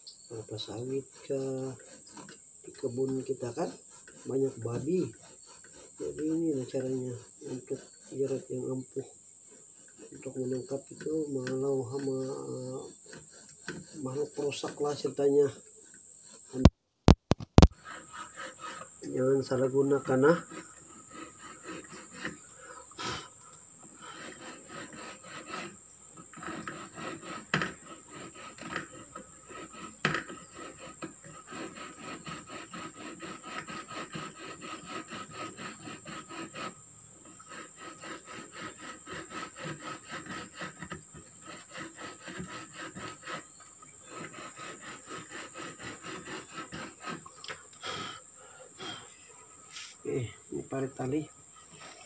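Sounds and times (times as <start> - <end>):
hand saw rasping through wood: 0.3 - 16.7, 17.6 - 49.1.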